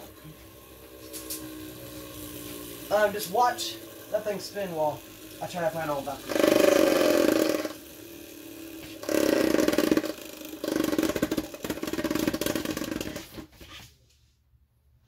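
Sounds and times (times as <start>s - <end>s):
spinning top rattling whir: 0.0s - 13.6s.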